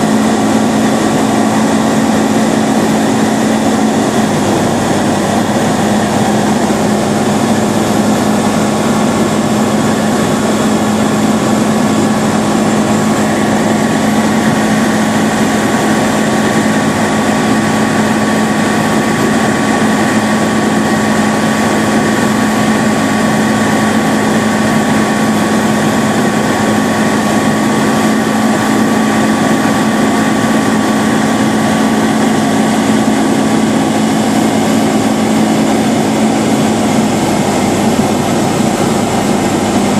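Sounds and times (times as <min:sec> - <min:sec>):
aircraft engine and propeller humming: 0:00.0 - 0:39.9
airflow noise: 0:00.0 - 0:39.9.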